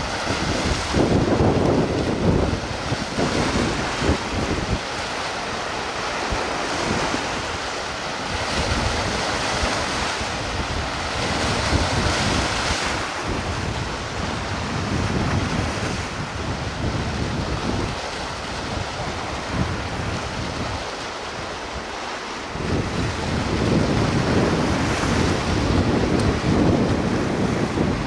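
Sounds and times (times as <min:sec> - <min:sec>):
rush of wind and water: 0:00.0 - 0:28.0
wind buffeting microphone: 0:00.0 - 0:28.0.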